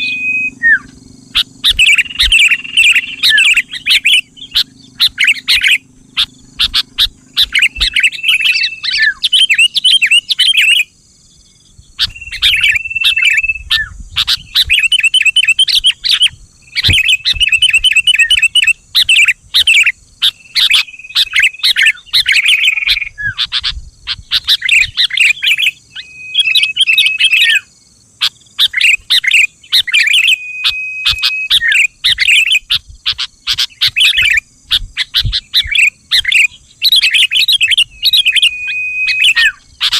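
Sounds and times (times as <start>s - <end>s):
bird chirpy song: 0.0s - 39.9s
whistled bird notes: 0.0s - 39.9s.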